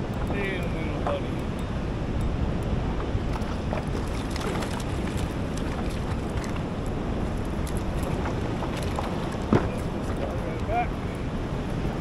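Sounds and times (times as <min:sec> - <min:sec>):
choppy sea water: 0:00.0 - 0:12.0
wind buffeting microphone: 0:00.0 - 0:12.0.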